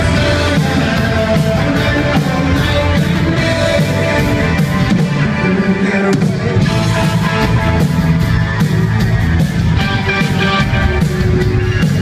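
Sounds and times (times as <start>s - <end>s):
electric guitar: 0.0s - 12.0s
steady drum beat: 0.0s - 12.0s.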